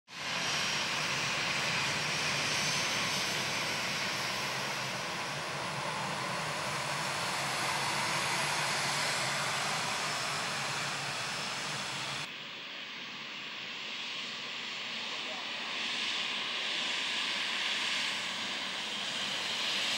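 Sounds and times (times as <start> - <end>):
jet engines running: 0.1 - 19.9.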